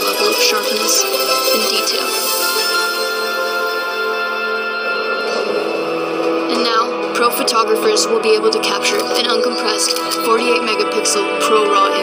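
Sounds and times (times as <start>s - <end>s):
sustained instrumental chords: 0.0s - 11.4s.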